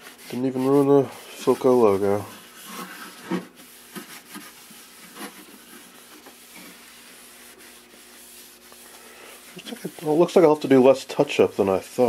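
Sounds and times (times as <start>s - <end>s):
rag wiping wood: 0.0s - 12.0s.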